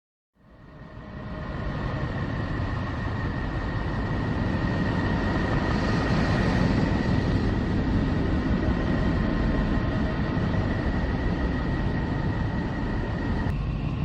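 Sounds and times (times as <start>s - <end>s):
deep noisy drone: 0.4s - 14.0s.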